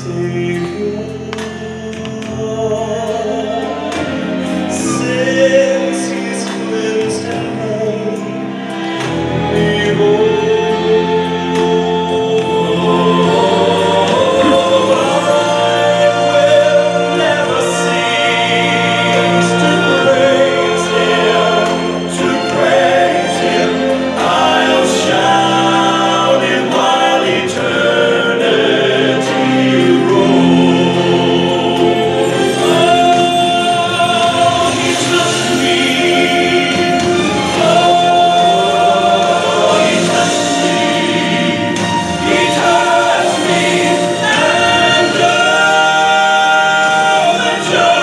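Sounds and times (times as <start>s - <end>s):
choir singing a hymn: 0.0s - 48.0s
sustained instrumental accompaniment: 0.0s - 48.0s.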